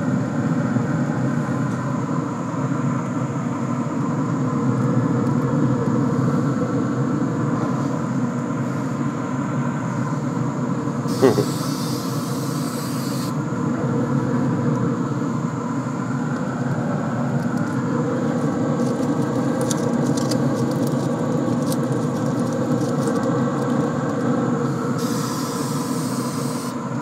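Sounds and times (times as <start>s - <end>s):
smoker fan drone: 0.0s - 27.0s.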